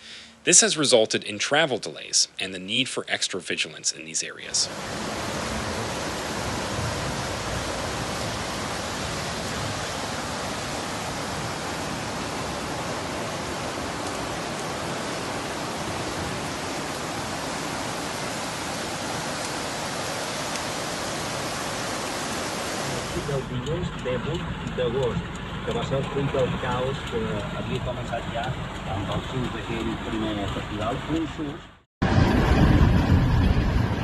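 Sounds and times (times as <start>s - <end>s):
water rushing: 3.6s - 32.7s.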